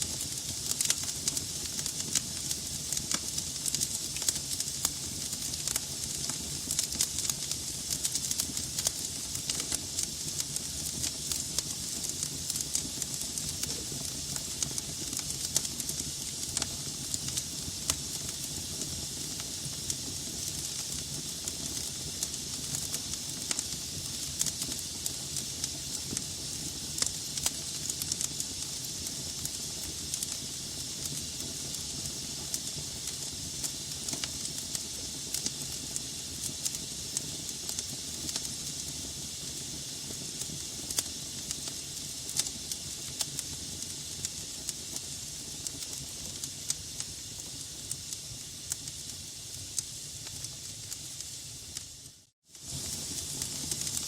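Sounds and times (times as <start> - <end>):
wood crackling and popping: 0.0 - 35.6, 40.3 - 48.0, 52.6 - 54.0
fire hissing and rumbling: 0.0 - 54.0.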